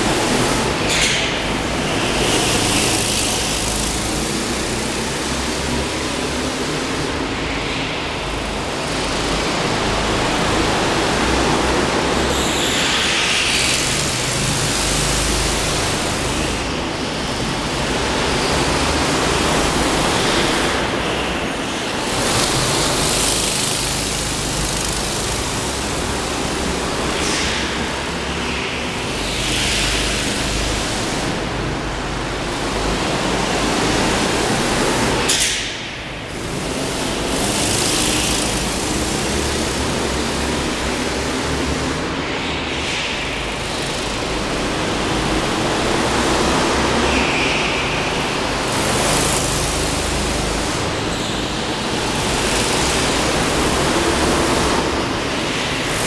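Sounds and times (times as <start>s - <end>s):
go-kart engines: 0.0s - 56.0s.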